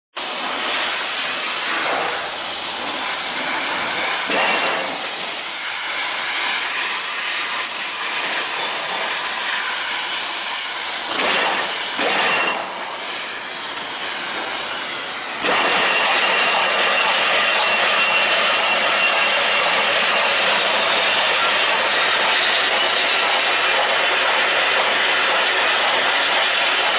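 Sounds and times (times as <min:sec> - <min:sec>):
wire machine running with hiss: 0:00.2 - 0:26.9.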